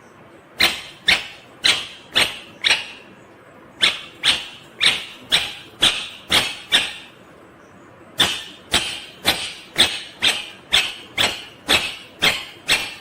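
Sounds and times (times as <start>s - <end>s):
parakeet shrill calls: 0.6s - 3.1s, 3.8s - 7.2s, 8.2s - 13.0s.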